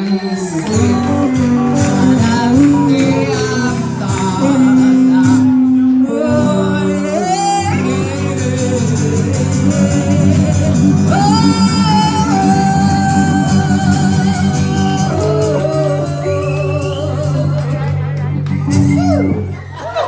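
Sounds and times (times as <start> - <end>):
person singing: 0.0 - 19.7
live band guitar: 0.0 - 20.0.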